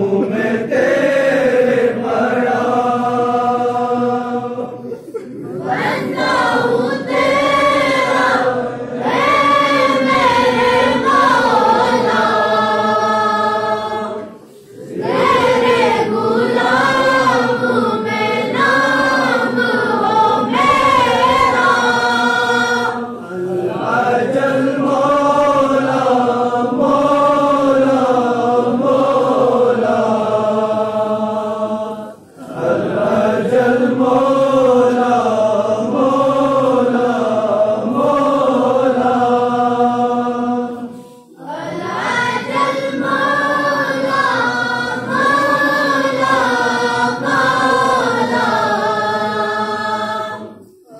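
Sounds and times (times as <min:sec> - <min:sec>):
group of boys singing: 0:00.0 - 0:50.9.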